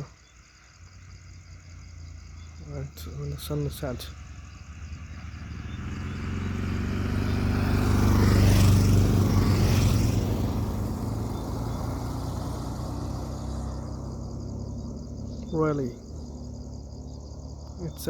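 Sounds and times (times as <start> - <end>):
vehicle driving past: 1.7 - 18.0.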